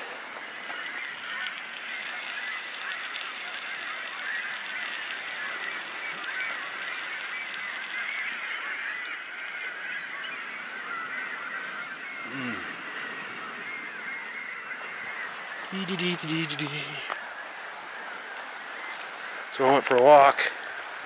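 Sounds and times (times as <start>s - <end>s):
steady high hiss: 0.0s - 17.9s.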